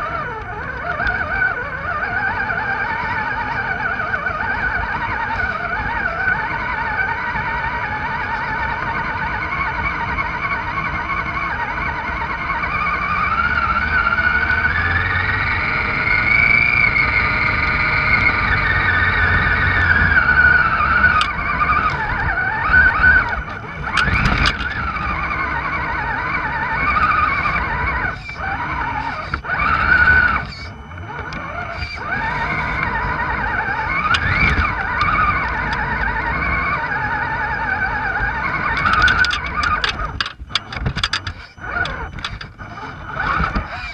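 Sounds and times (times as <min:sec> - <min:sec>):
electric motor and gears whining: 0:00.0 - 0:43.9.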